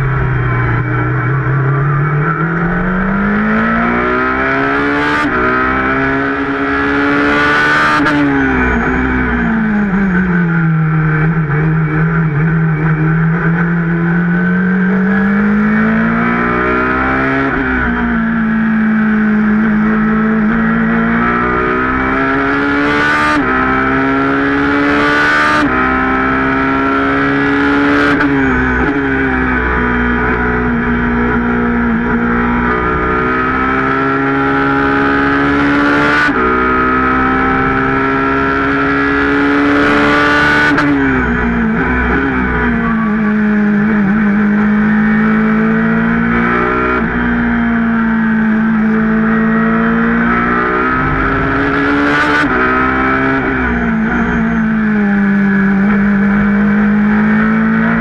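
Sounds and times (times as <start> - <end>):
racing engine accelerating: 0.0 - 58.0.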